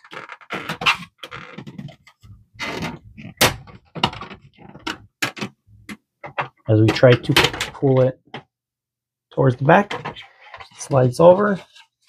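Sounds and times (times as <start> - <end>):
plastic scraping and rubbing: 0.0 - 8.4, 9.7 - 12.0.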